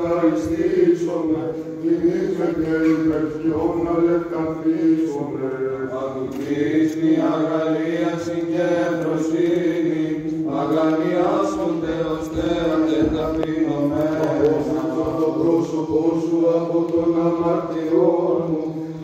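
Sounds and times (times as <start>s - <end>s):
voices singing slow chant: 0.0s - 19.0s.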